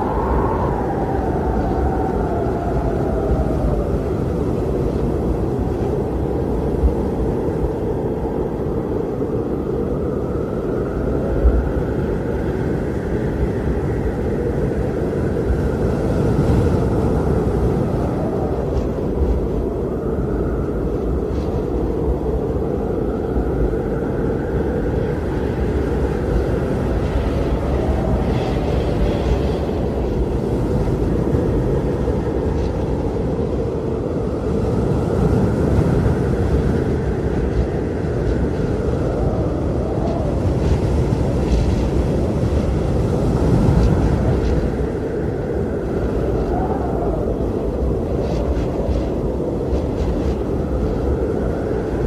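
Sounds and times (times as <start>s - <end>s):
blizzard wind howling: 0.0s - 52.0s.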